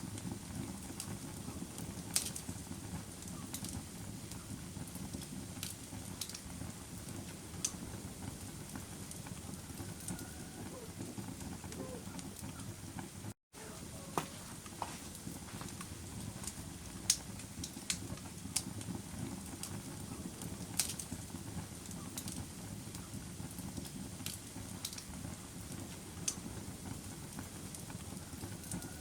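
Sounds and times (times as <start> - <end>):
fire pops and snaps: 0.0 - 13.3, 14.2 - 29.0
campfire crackling: 0.0 - 29.0
low rumble of burning: 0.0 - 29.0.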